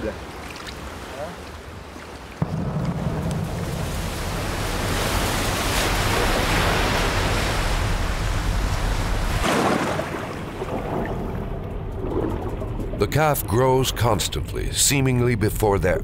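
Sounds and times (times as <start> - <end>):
ocean waves: 0.0 - 14.6
wind: 0.0 - 16.0.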